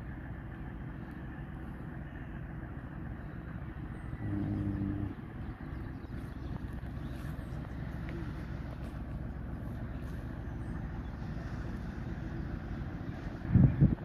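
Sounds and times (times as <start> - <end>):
engine low rumble: 0.0 - 14.0
loud low hum: 0.0 - 14.0.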